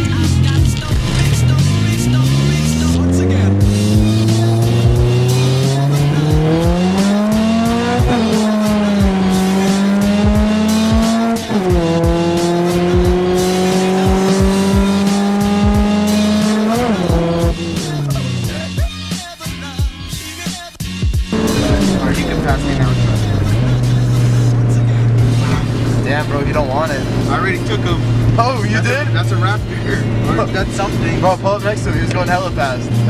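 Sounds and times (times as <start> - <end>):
car engine revving under load: 0.0 - 18.8, 21.3 - 33.0
music beat: 0.0 - 33.0.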